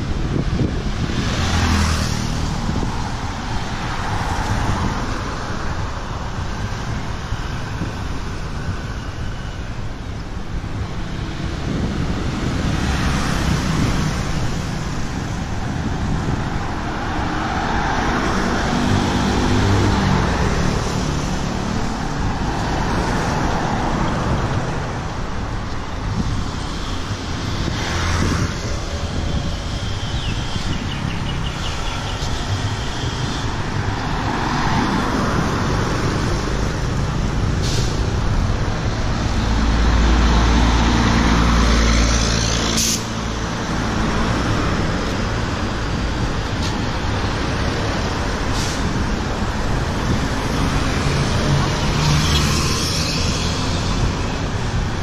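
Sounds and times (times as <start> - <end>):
cars driving past: 0.0 - 5.5, 11.2 - 55.0.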